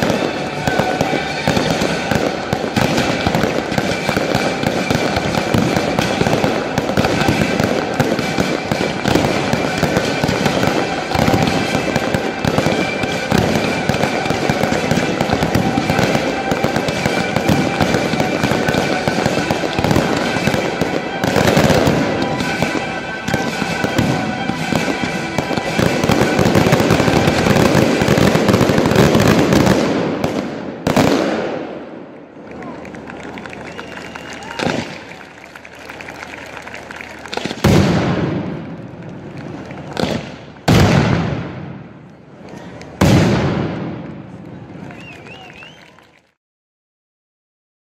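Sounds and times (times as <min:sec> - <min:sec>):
fireworks bursting: 0:00.0 - 0:32.5, 0:33.1 - 0:45.8
fireworks crackling: 0:00.0 - 0:46.3.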